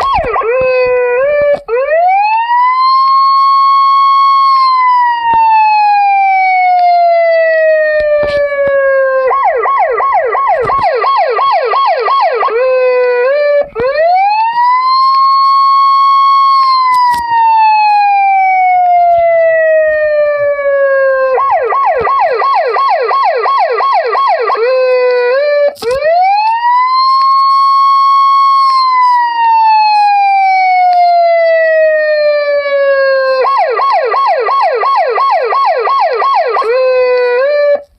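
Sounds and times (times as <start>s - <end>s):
police siren: 0.0s - 37.9s.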